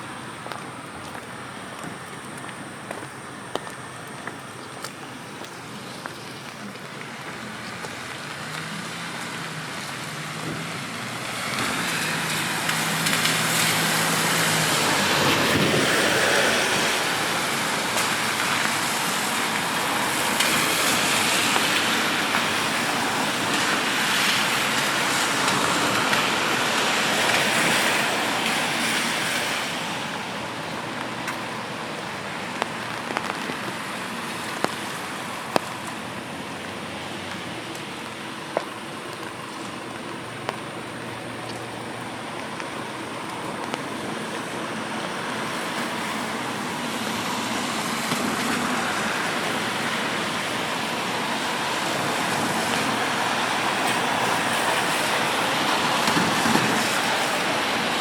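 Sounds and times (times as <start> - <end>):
steady rain: 0.0 - 58.0
tyres hissing on wet road: 0.0 - 58.0.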